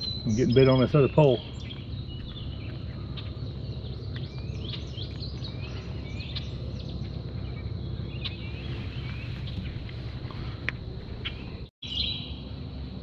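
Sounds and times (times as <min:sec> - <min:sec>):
low outdoor rumble: 0:00.0 - 0:13.0
songbirds chirping: 0:00.0 - 0:13.0.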